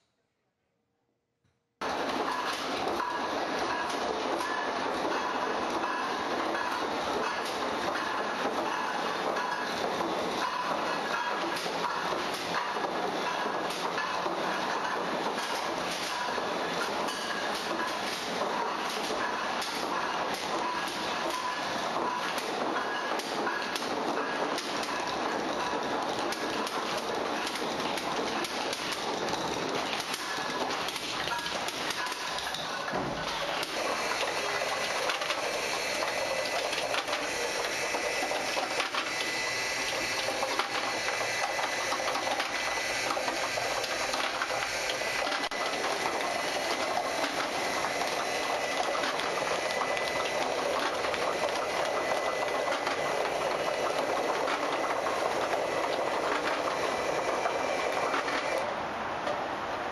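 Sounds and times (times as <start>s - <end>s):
machine clattering with rapid clicks: 1.8s - 58.7s.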